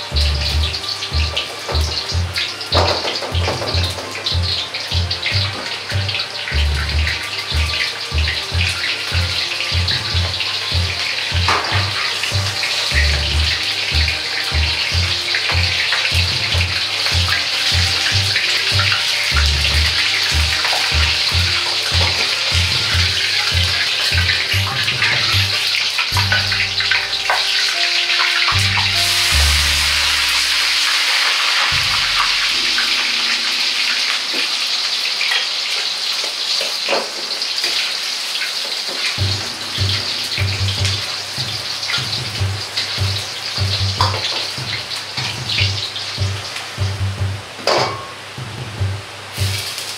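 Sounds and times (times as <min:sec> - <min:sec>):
music with pulsing bass line: 0:00.0 - 0:27.5, 0:28.5 - 0:30.9, 0:31.7 - 0:34.2, 0:39.2 - 0:47.6, 0:48.4 - 0:49.8
oil sizzling in a wok: 0:00.0 - 0:49.9.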